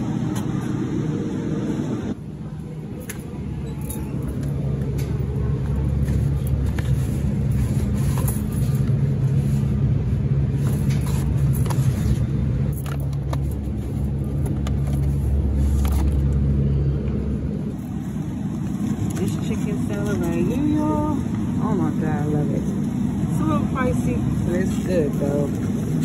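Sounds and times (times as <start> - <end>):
refrigerated display cases humming: 0.0 - 26.0.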